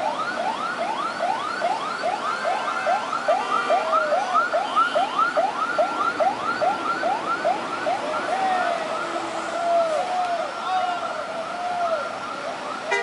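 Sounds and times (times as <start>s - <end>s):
siren yelping: 0.0s - 13.0s.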